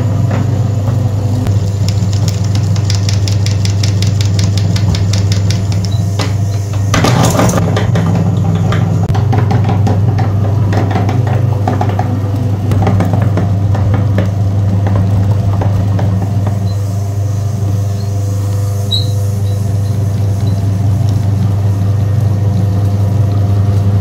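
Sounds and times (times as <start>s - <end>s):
meat grinder humming: 0.0s - 24.0s.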